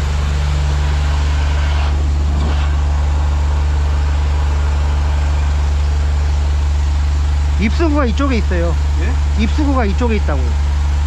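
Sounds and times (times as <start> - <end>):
loud engine humming: 0.0 - 11.0.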